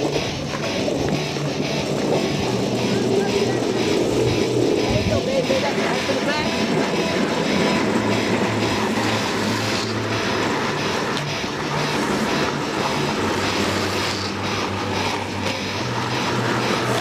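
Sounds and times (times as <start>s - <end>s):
longboard wheels rolling on asphalt: 0.0s - 17.0s.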